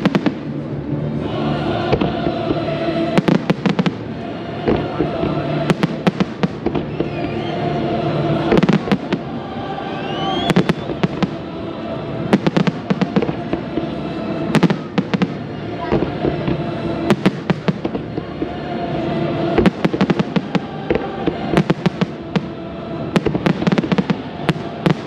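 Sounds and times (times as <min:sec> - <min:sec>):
fireworks bursting with sharp bangs: 0:00.0 - 0:00.6, 0:01.8 - 0:07.8, 0:08.4 - 0:18.8, 0:19.4 - 0:25.0.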